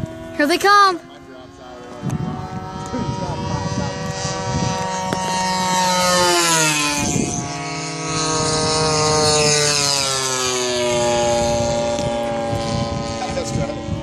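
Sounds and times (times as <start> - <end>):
model plane propeller engines passing: 0.0 - 14.0.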